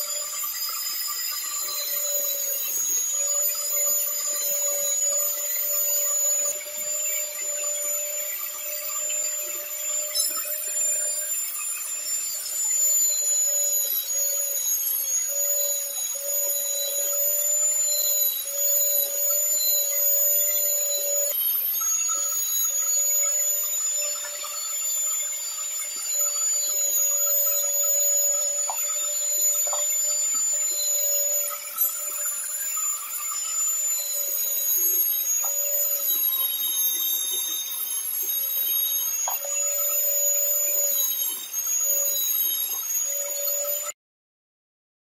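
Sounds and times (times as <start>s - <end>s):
wire wheel motor whine: 0.0s - 44.0s.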